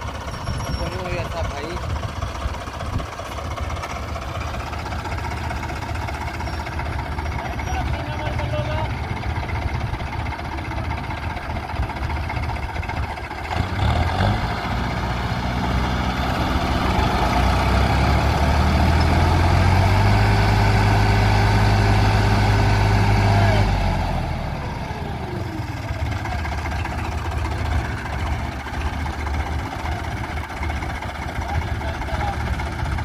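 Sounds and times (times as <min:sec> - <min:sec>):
tractor diesel engines straining: 0:00.0 - 0:33.0.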